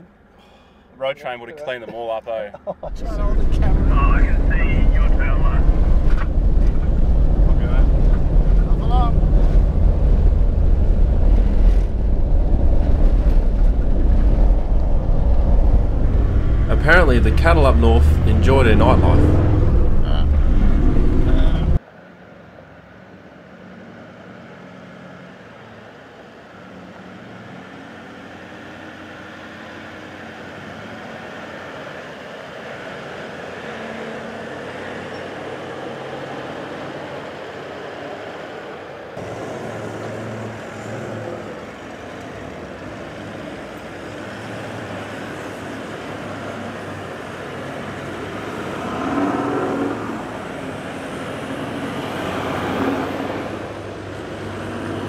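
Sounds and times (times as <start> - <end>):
vehicles driving on dirt track: 0.0 - 55.0.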